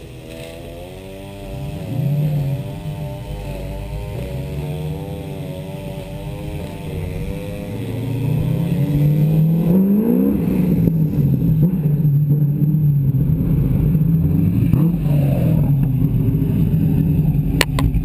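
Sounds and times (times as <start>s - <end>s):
kart engine running: 0.0s - 18.0s.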